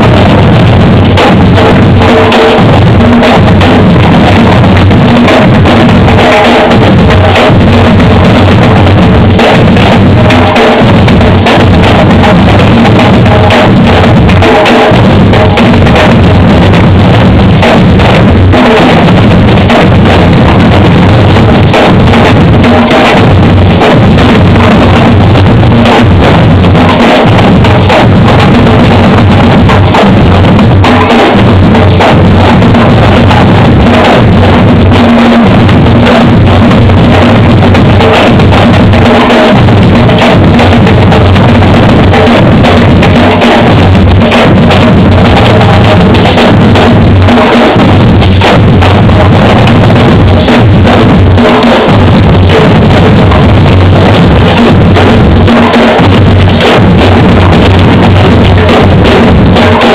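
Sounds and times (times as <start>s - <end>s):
deep bass drums struck: 0.0s - 59.9s
stick-played smaller drums: 0.0s - 59.9s.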